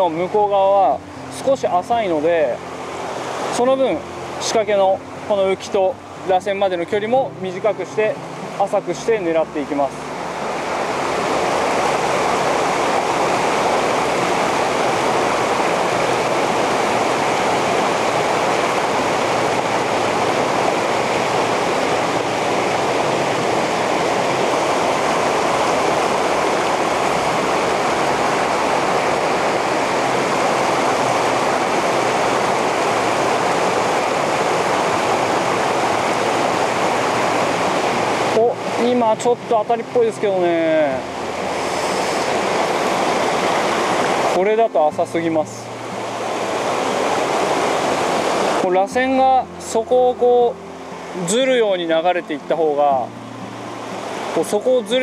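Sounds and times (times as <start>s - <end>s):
river water rushing over stones: 0.0s - 55.0s.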